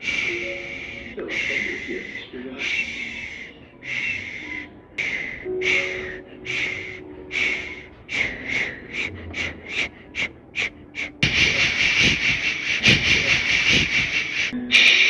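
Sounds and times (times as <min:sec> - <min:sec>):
person breathing loudly: 0:00.0 - 0:15.0.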